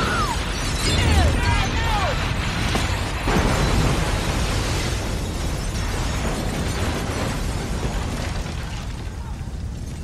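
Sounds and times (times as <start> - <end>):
explosion roaring with low rumble: 0.0 - 10.0.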